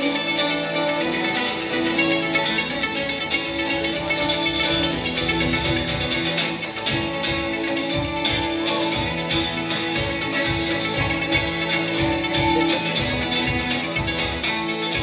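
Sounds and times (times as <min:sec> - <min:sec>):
hand drum beat: 0:00.0 - 0:15.0
plucked zither strumming: 0:00.0 - 0:15.0.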